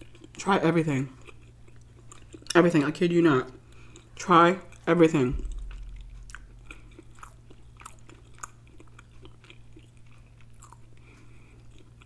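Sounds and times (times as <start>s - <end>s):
person chewing food: 0.0s - 0.4s, 1.0s - 12.0s
faint steady hum: 0.0s - 12.0s.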